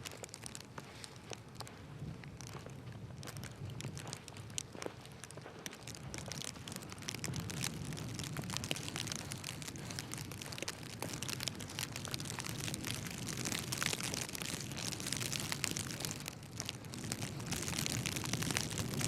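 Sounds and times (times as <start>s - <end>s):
crackling hiss of fine clicks: 0.0s - 19.0s.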